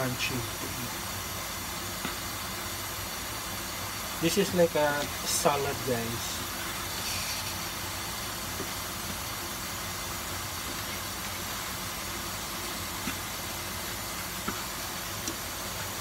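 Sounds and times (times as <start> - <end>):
food sizzling in pan: 0.8 - 16.0.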